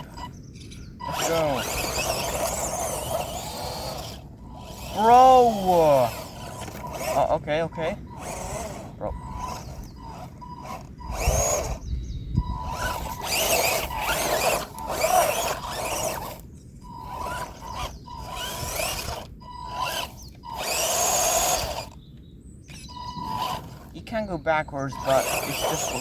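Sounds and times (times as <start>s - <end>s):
toy car electric motor revving: 0.0s - 22.0s, 22.7s - 26.0s.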